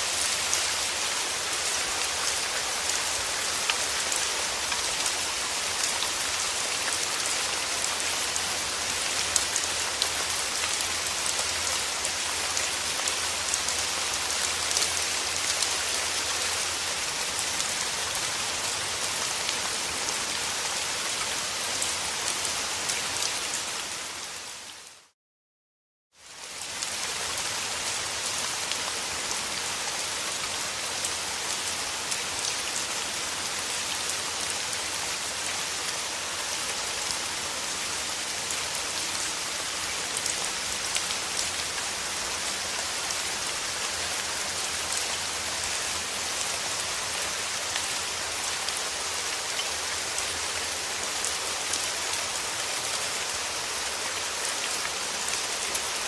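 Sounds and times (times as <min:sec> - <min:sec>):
steady rain hissing: 0:00.0 - 0:25.2, 0:26.2 - 0:56.0.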